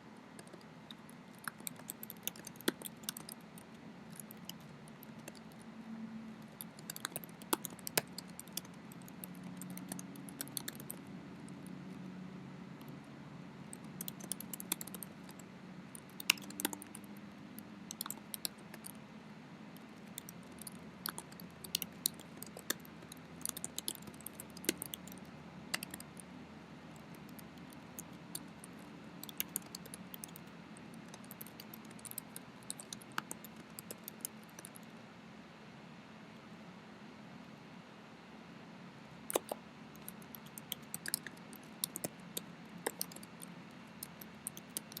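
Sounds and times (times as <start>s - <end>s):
low steady hum: 0.0s - 45.0s
typing on computer keyboard: 0.4s - 5.6s, 6.4s - 12.2s, 13.6s - 19.0s, 19.8s - 26.3s, 26.9s - 34.8s, 39.3s - 45.0s.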